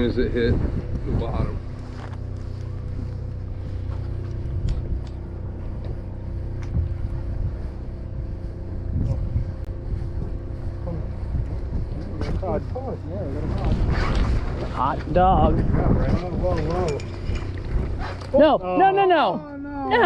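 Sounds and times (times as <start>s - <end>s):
wind buffeting microphone: 0.0s - 19.3s
boat engine rumbling: 0.0s - 20.0s.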